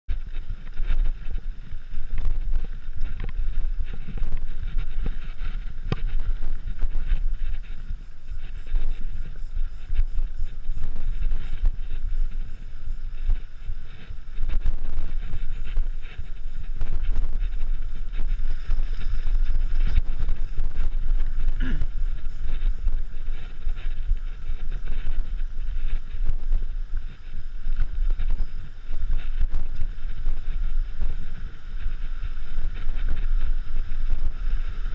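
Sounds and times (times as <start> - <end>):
bike clicks and rattles: 0.1 - 34.9
wind buffeting microphone: 0.1 - 34.9.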